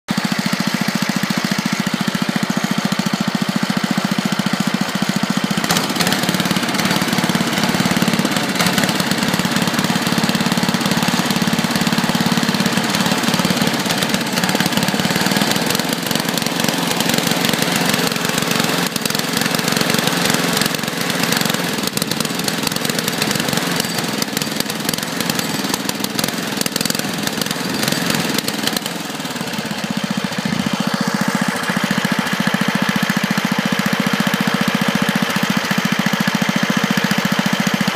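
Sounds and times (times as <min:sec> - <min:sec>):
small engine misfiring: 0:00.1 - 0:37.9.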